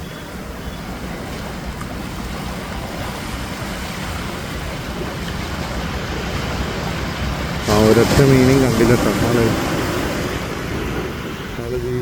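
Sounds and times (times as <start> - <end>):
sea waves and surf: 0.0 - 12.0.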